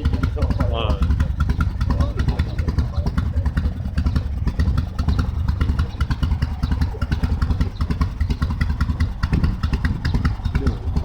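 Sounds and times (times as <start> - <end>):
motorcycle engine idling unevenly: 0.0 - 11.0.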